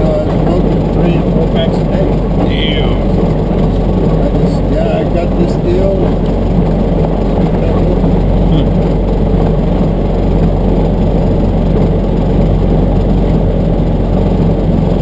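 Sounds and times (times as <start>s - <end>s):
tyre and road rumble: 0.0s - 15.0s
vehicle engine running: 0.0s - 15.0s.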